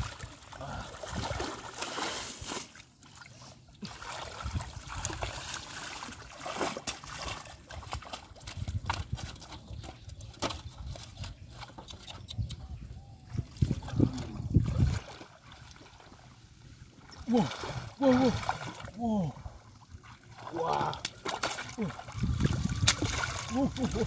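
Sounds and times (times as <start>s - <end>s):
hands splashing in muddy water: 0.0s - 11.9s, 13.4s - 16.4s, 17.0s - 24.0s
water dripping and sloshing: 0.0s - 12.0s, 13.3s - 24.0s.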